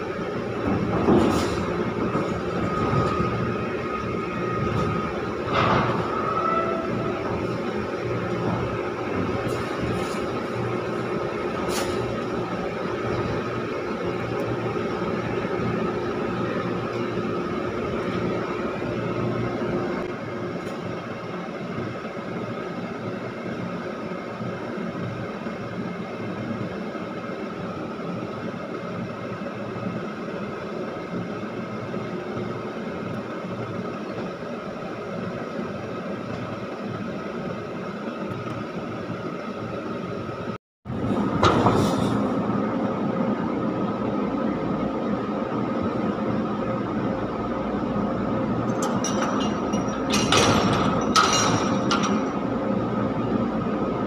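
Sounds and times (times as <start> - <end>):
crane machinery droning: 0.0 - 54.0.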